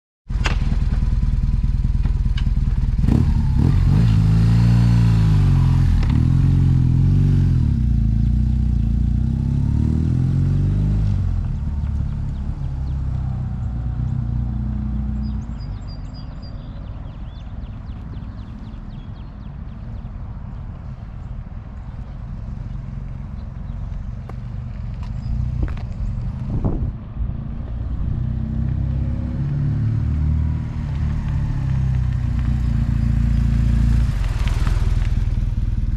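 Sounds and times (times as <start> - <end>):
motorcycle engine accelerating: 0.3 - 16.3, 22.8 - 35.9.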